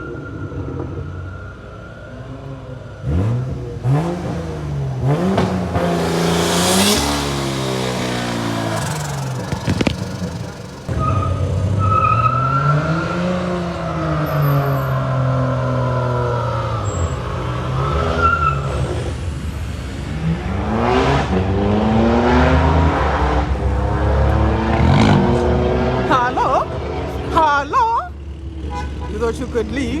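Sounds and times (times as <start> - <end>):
car engine revving: 2.1 - 30.0.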